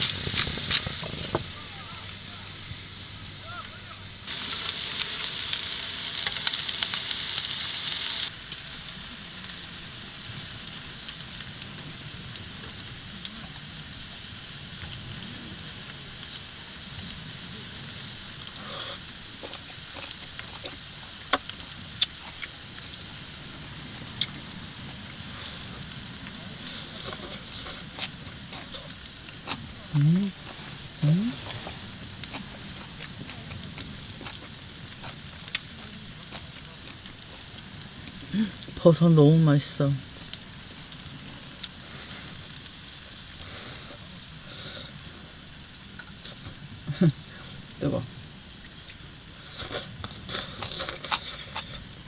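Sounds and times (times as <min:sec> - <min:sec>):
mushrooms sizzling in a pan: 0:00.0 - 0:52.0.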